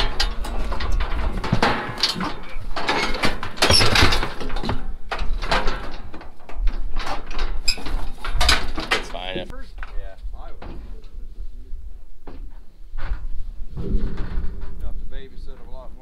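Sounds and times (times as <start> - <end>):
metal chute clanking and rattling: 0.0 - 11.2, 12.2 - 16.0.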